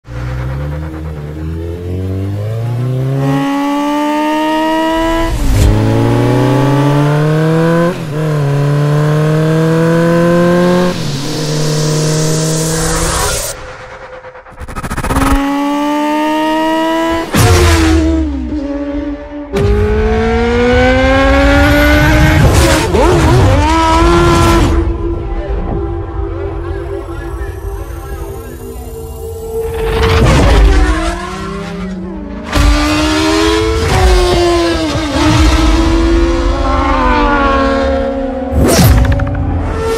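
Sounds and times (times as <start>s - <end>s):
motorcycle engine accelerating: 0.0s - 26.6s, 27.3s - 39.9s.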